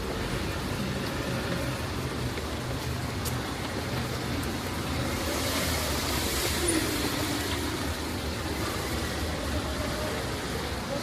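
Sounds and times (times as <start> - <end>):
street traffic on wet road: 0.0 - 11.0.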